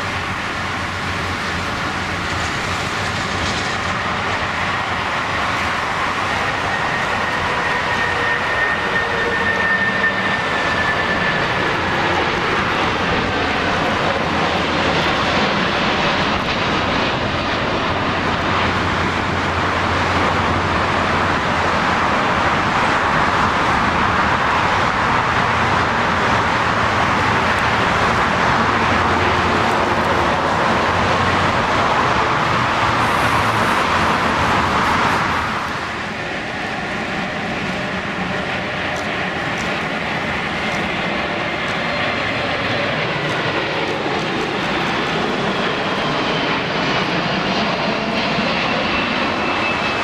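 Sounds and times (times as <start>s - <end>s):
jet engines roaring: 0.0s - 50.0s
steady engine whine: 0.0s - 50.0s.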